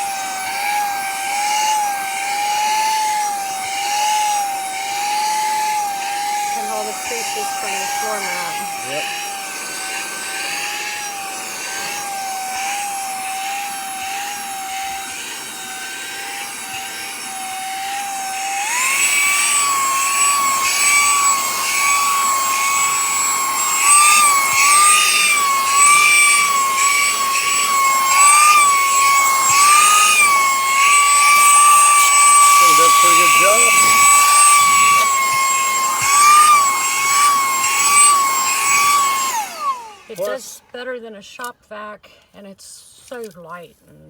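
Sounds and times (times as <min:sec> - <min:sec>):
handheld vacuum motor whine: 0:00.0 - 0:40.8.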